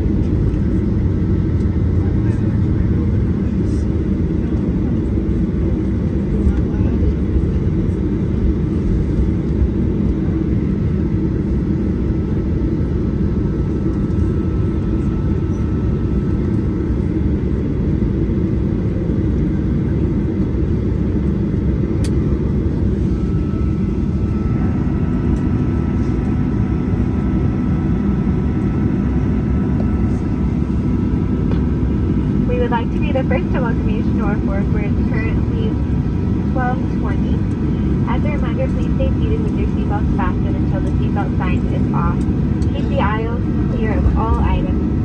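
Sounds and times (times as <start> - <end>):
airliner engines rumbling in cabin: 0.0 - 45.0.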